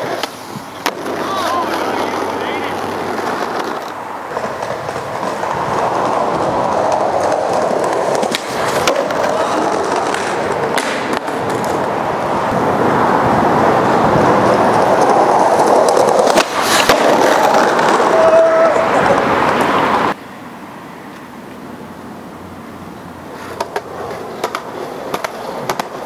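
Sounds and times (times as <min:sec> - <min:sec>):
skateboard wheels rolling on asphalt: 0:00.0 - 0:26.0.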